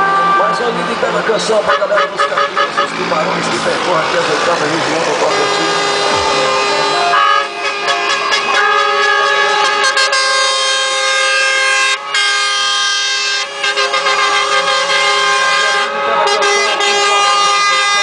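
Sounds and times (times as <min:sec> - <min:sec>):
truck air horns blowing: 0:00.0 - 0:00.8, 0:01.5 - 0:18.0.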